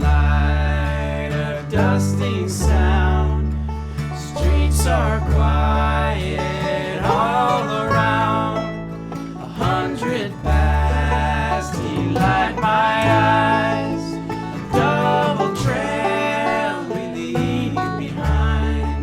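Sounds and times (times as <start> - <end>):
banjo picking: 0.0 - 19.0
bass line: 0.0 - 19.0
guitar: 0.0 - 19.0.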